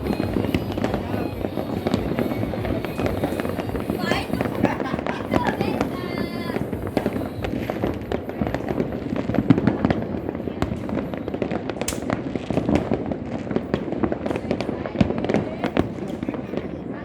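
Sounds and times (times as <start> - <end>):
firecrackers and fireworks bangs: 0.0 - 17.0.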